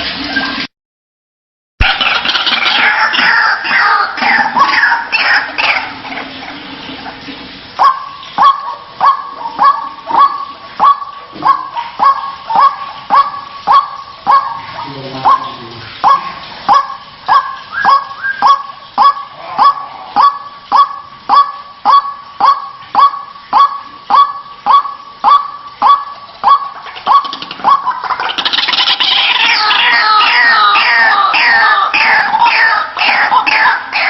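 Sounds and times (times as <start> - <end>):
waterhen harsh calls: 1.8 - 34.0.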